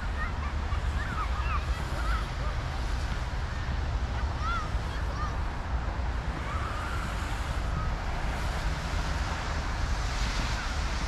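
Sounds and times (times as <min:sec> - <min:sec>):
distant traffic rumble: 0:00.0 - 0:11.0
wind on microphone: 0:00.0 - 0:11.0.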